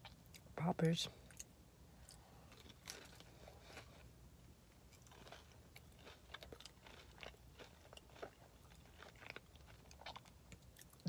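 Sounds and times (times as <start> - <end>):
faint crunchy chewing: 0.0 - 0.6, 1.2 - 11.0.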